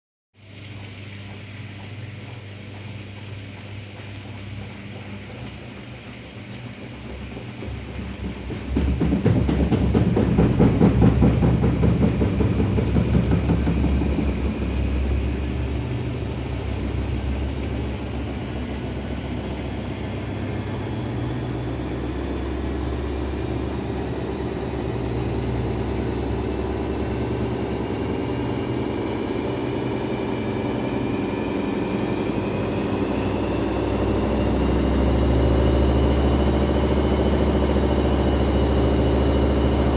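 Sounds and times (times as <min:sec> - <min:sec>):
washing machine spinning up: 0:00.4 - 0:39.9
washing machine drum knocking: 0:01.2 - 0:39.9.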